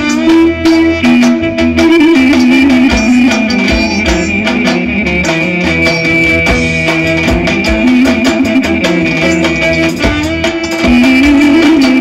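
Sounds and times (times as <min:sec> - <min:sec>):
bass line: 0:00.0 - 0:12.0
drums beating: 0:00.0 - 0:12.0
high held melody note: 0:00.0 - 0:12.0
live band dance music: 0:00.0 - 0:12.0.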